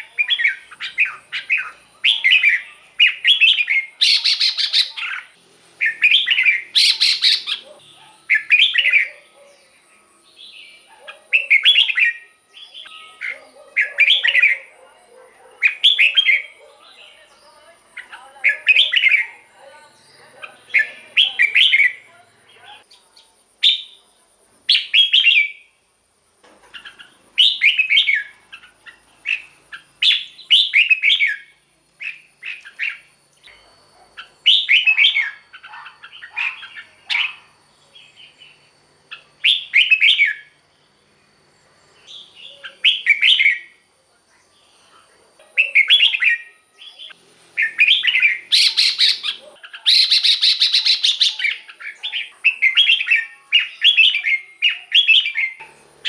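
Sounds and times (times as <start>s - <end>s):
bird singing warbling phrases: 0.0s - 24.1s, 24.7s - 25.8s, 26.6s - 40.6s, 41.8s - 56.0s.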